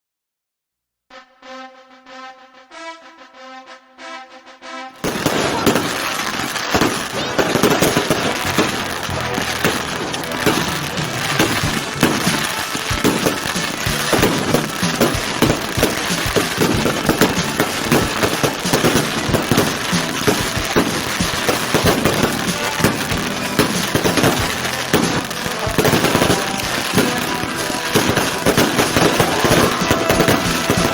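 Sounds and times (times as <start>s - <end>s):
fireworks bangs and crackles: 5.0s - 30.9s.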